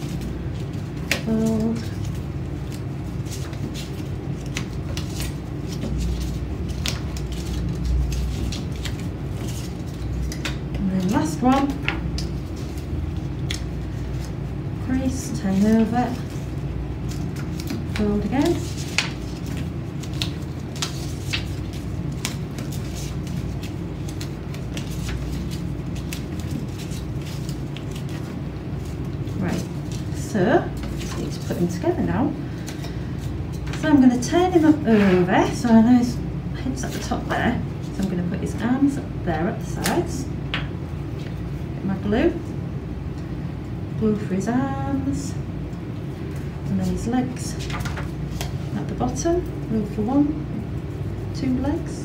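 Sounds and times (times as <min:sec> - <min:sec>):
paper strip rustling as folded: 0:00.0 - 0:42.4, 0:45.6 - 0:52.0
steady low hum: 0:00.0 - 0:52.0.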